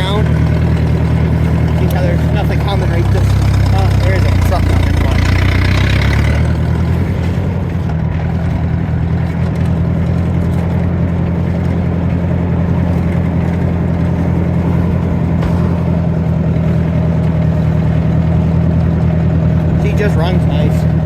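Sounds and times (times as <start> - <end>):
tractor engine running steadily: 0.0 - 21.0.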